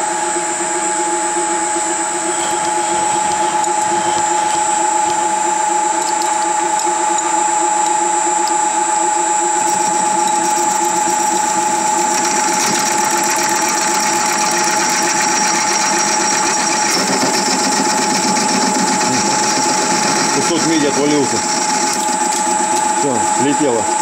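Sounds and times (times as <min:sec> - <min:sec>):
metal lathe whining: 0:00.1 - 0:24.0.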